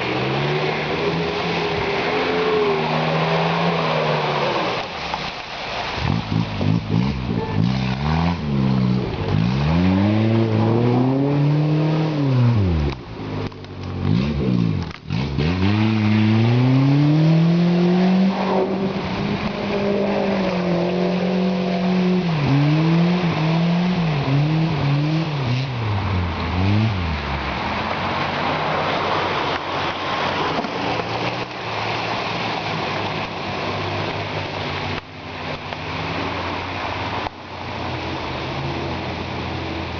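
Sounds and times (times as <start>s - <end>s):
car engine revving: 0.0s - 37.3s.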